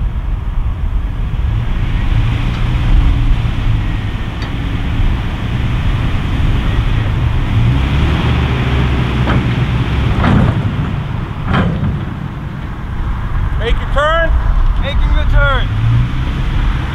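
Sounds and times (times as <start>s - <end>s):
road noise: 0.0s - 16.9s
truck engine running: 0.0s - 16.9s.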